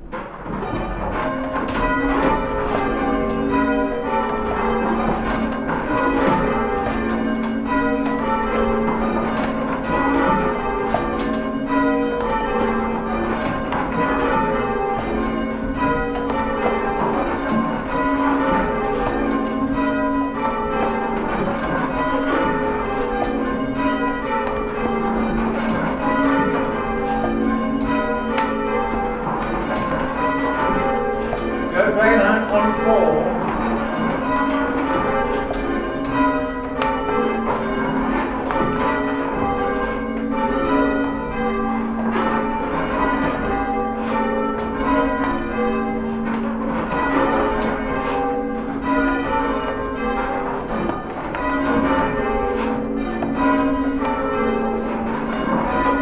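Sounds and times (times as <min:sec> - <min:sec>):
church bells change ringing: 0:00.0 - 0:56.0.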